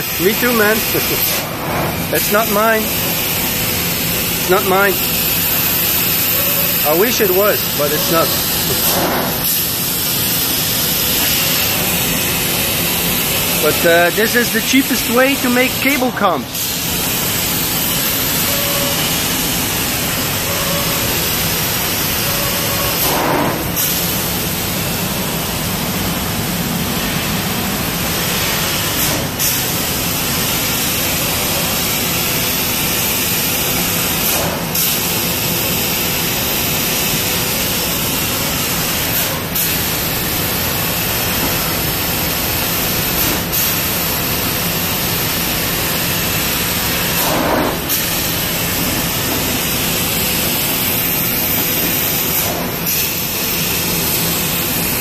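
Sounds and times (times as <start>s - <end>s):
laser cutter hissing: 0.0s - 55.0s.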